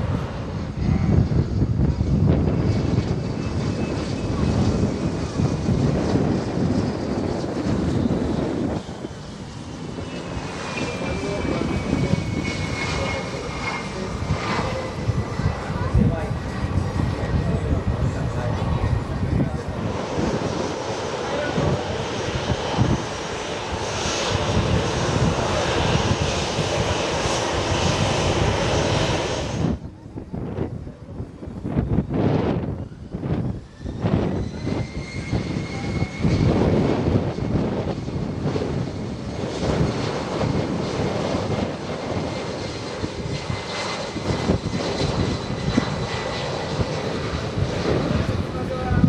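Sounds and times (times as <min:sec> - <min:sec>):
aircraft engines roaring: 0:00.0 - 0:49.0.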